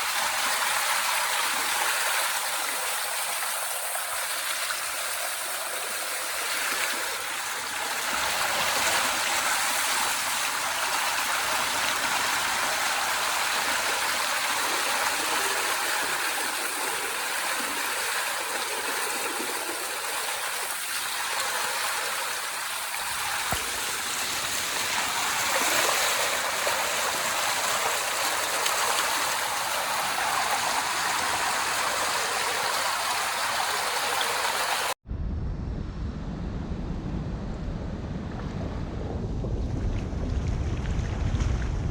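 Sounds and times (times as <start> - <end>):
water rushing through culvert: 0.0 - 35.0.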